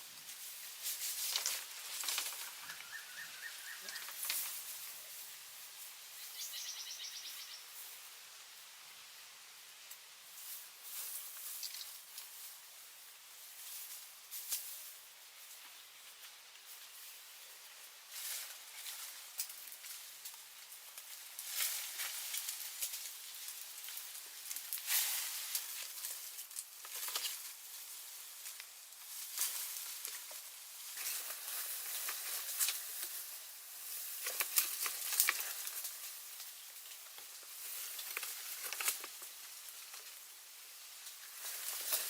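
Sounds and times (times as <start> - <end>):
dry sticks and leaves rustling: 0.0 - 8.1, 9.8 - 42.0.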